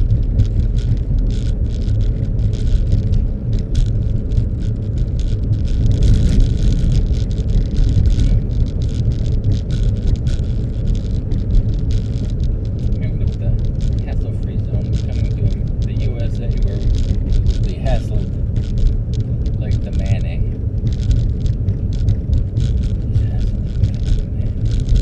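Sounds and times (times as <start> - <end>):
car low rumble: 0.0 - 25.0
short crackles: 0.0 - 25.0.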